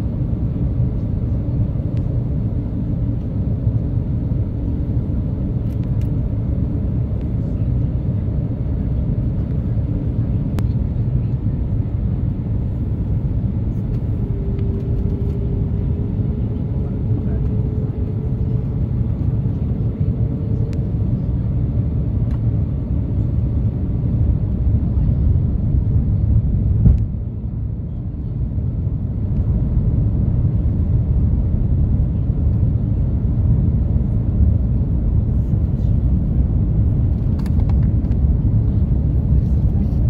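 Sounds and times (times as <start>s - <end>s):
airplane cabin engine rumble: 0.0s - 40.0s.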